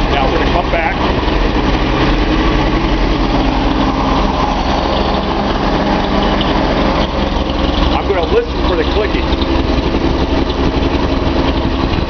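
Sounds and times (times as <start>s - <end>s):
car engine idling and misfiring: 0.0s - 12.0s.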